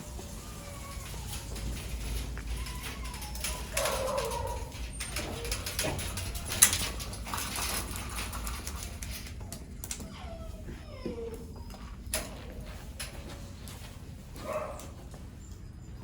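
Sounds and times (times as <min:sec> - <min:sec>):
puppies whining and yelping: 0:00.0 - 0:13.6, 0:14.4 - 0:16.0.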